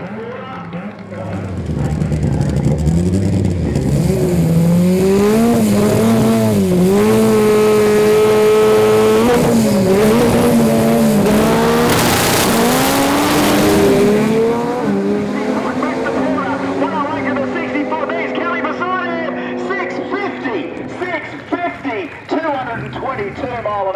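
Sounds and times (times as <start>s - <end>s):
racing car engine revving: 0.0s - 23.9s.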